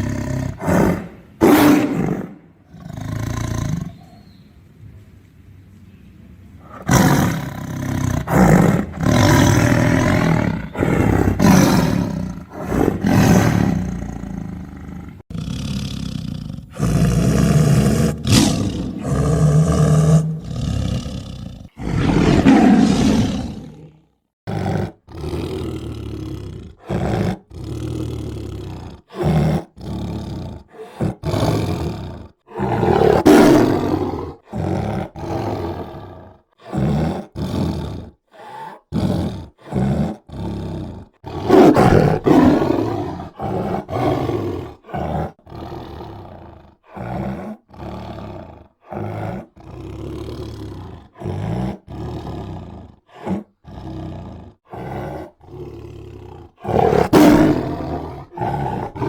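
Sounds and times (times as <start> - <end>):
tiger roaring: 0.0 - 4.2, 6.6 - 59.0.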